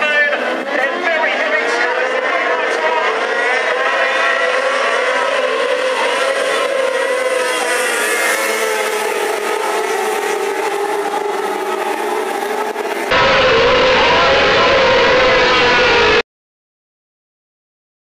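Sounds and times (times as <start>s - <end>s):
racing car engines: 0.0s - 16.2s.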